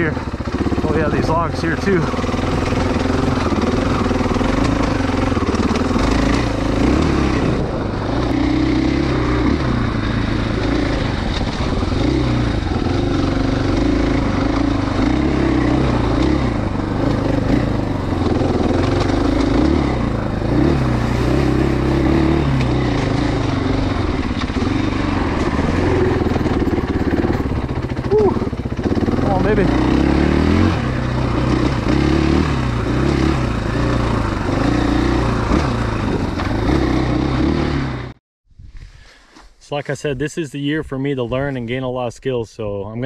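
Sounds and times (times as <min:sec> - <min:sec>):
dirt bike engine revving: 0:00.0 - 0:38.2.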